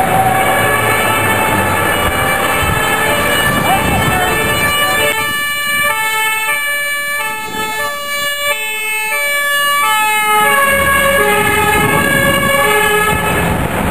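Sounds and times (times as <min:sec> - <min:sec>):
truck engine rumble: 0:00.0 - 0:13.9
two-tone fire engine siren: 0:00.0 - 0:13.9.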